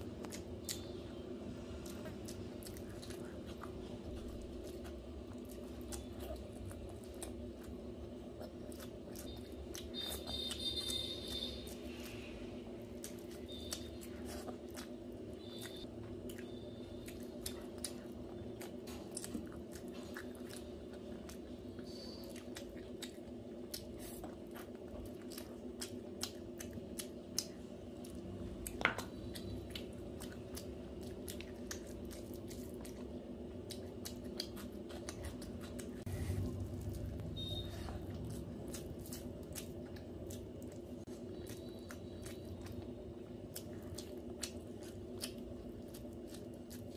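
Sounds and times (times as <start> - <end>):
chewing and lip-smacking: 0.0 - 46.9
steady low hum: 0.0 - 46.9.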